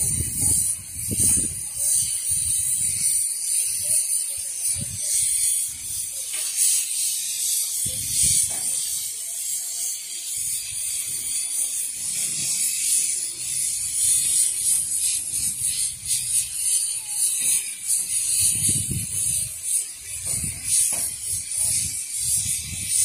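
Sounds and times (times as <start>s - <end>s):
cicadas chirring: 0.0s - 23.0s.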